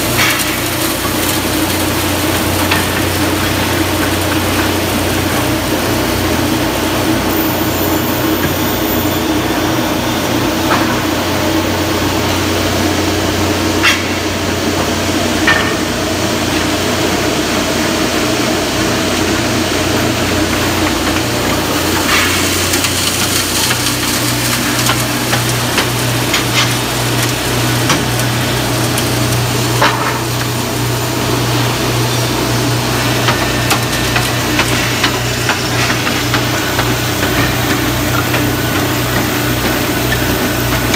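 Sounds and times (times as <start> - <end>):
motor and conveyor hum: 0.0 - 40.9.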